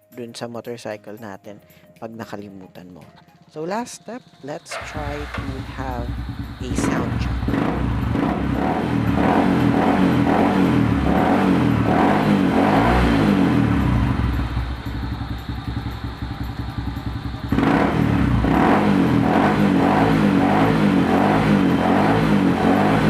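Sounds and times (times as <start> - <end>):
motorcycle engine revving: 3.2 - 23.0.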